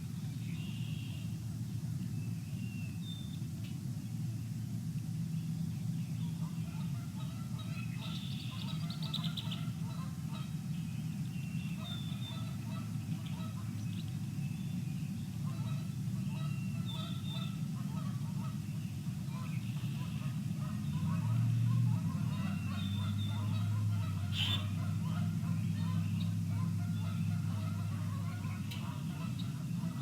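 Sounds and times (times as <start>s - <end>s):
steady low rumble: 0.0s - 30.0s
birds calling: 5.3s - 30.0s.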